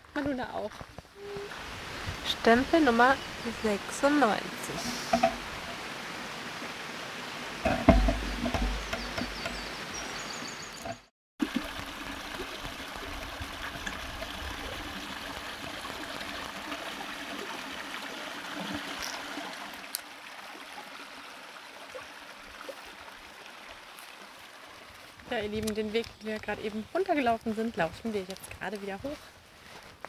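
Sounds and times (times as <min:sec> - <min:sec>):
brook trickling over stones: 0:00.3 - 0:29.2.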